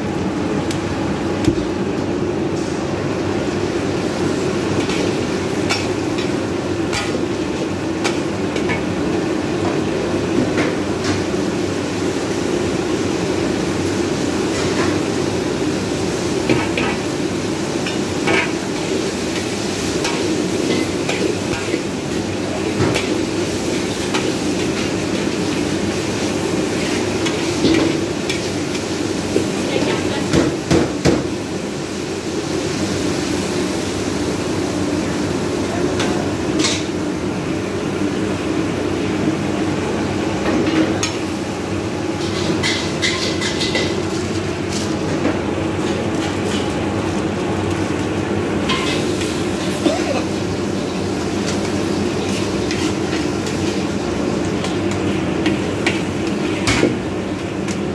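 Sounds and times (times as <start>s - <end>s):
gas burner noise: 0.0s - 57.9s.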